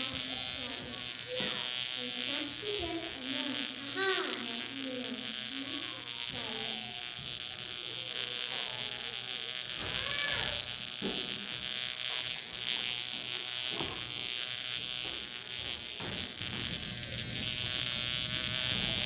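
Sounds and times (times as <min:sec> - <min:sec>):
buzzing hiss: 0:00.0 - 0:19.0
faint children's voices: 0:00.0 - 0:19.0.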